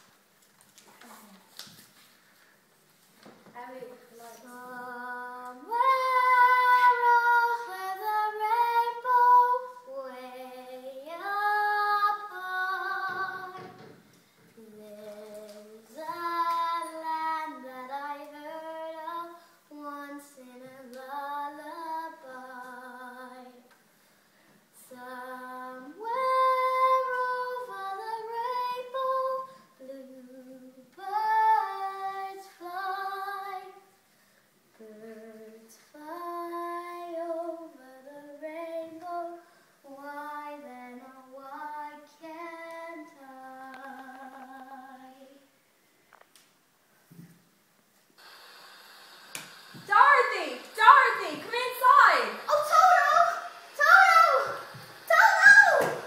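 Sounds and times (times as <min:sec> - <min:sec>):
young girl singing: 0:03.5 - 0:23.8, 0:24.7 - 0:34.0, 0:34.7 - 0:45.6, 0:51.1 - 0:56.0.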